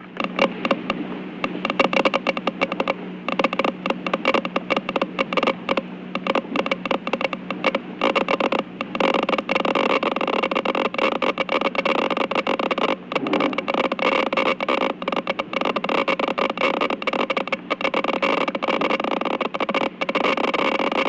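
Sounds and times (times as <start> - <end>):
clatter of rapid clicks: 0.0 - 21.0
steady mechanical hum: 0.0 - 21.0.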